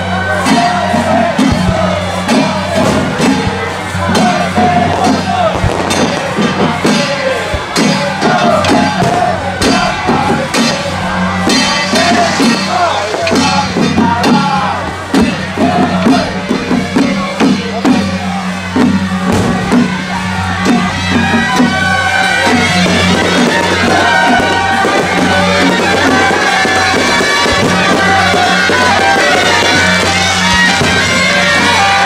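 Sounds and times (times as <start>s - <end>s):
held high melody notes: 0.0s - 32.0s
music with low drone: 0.0s - 32.0s
fireworks crackling: 0.5s - 32.0s.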